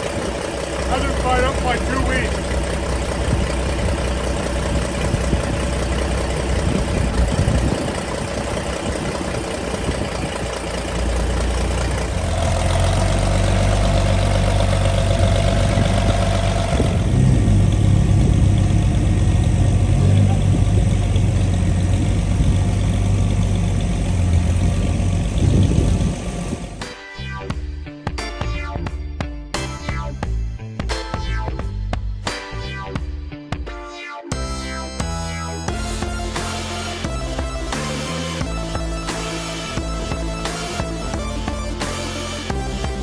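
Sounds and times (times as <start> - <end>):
tractor engine running: 0.0 - 26.9, 34.3 - 43.0.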